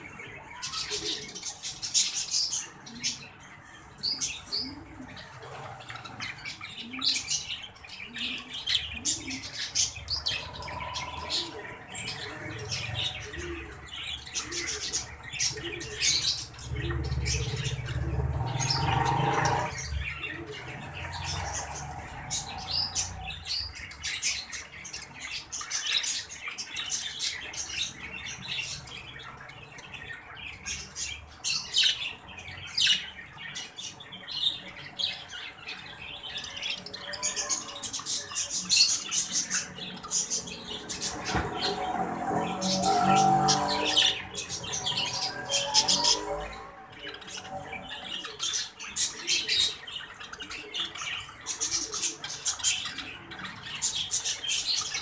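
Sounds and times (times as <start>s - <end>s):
budgerigars chirping and squawking: 0.0s - 55.0s.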